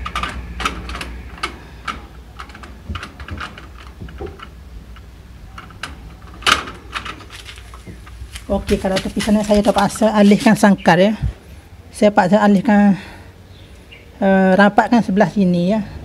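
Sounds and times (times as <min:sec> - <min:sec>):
low hum: 0:00.0 - 0:14.2.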